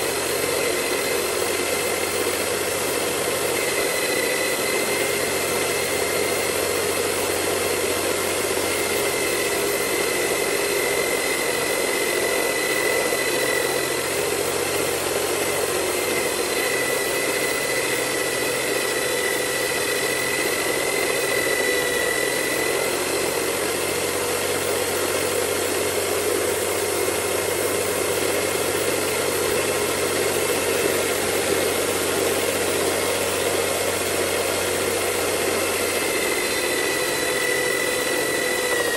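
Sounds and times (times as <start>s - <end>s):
belt sander motor whine: 0.0s - 38.9s.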